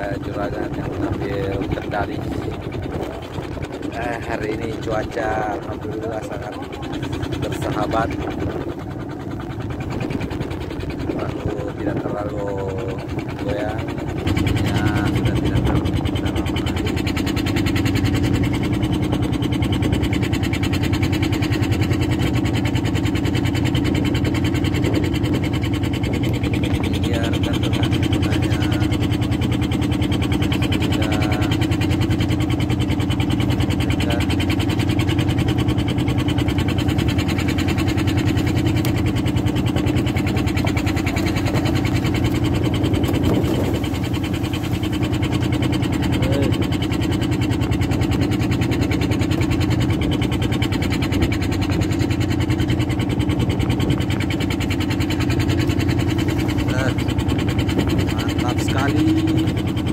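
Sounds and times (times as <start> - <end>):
boat engine running steadily: 0.0 - 59.9.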